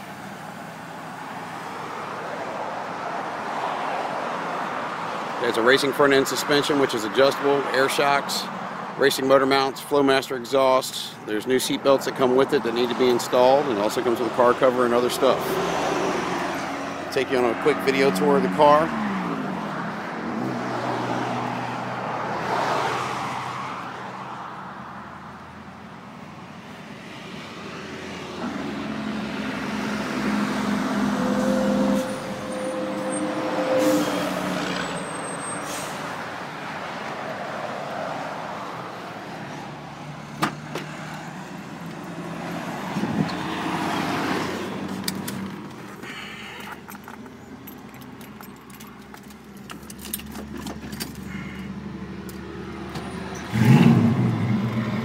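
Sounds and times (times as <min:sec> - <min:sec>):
cars and trucks passing: 0:00.0 - 0:55.0.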